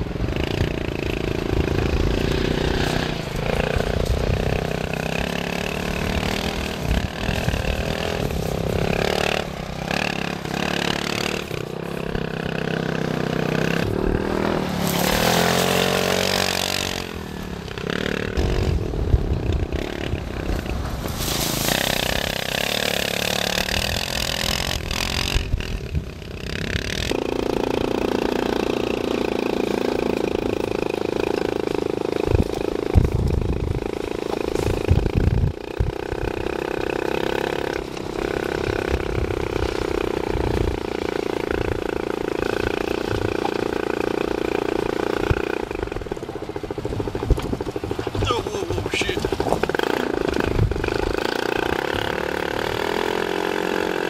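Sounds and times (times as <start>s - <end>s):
dune buggy engine revving: 0.0s - 54.0s.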